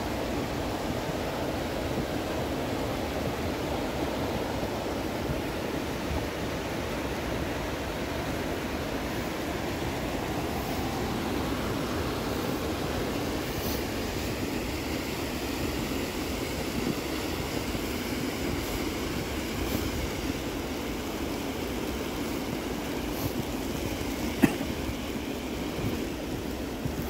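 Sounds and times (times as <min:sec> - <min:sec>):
mountain creek rushing: 0:00.0 - 0:27.0.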